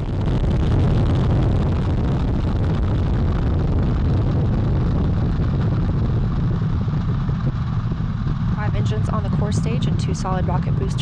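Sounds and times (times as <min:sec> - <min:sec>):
deep rumble of rocket exhaust: 0:00.0 - 0:11.0.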